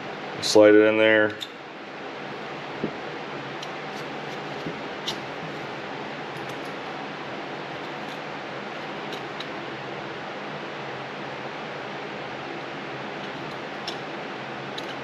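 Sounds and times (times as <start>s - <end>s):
steady fan-like hiss: 0.0s - 15.0s.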